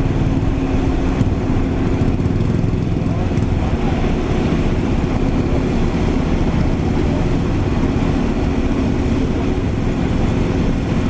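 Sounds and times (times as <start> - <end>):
diesel engine droning under load: 0.0 - 11.0.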